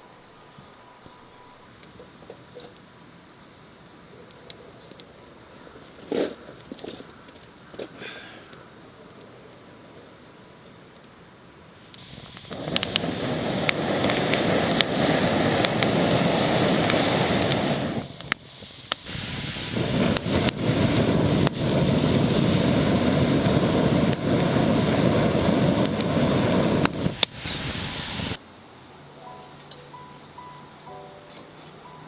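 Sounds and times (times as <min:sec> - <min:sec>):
campfire rushing: 0:01.8 - 0:28.4
fire crackling and popping: 0:01.8 - 0:28.4.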